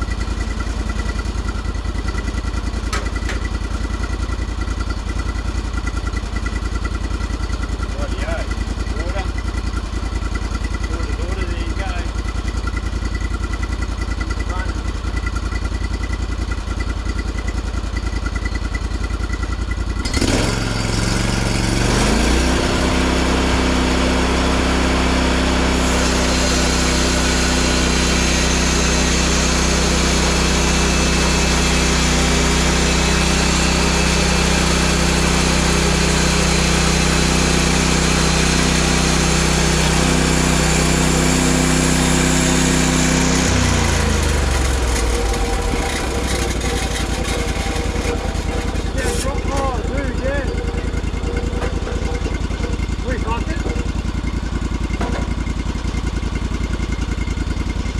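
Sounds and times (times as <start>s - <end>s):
sawmill engine idling and revving: 0.0s - 57.9s.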